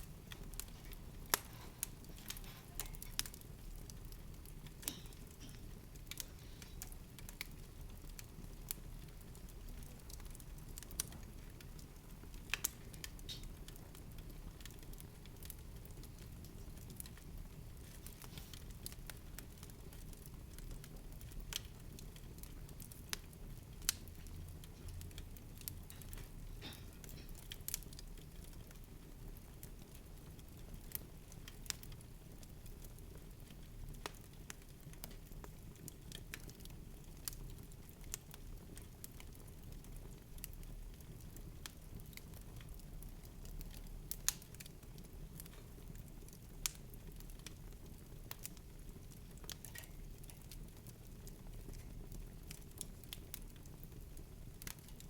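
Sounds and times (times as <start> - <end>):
light crackles and clicks: 0.0 - 55.0.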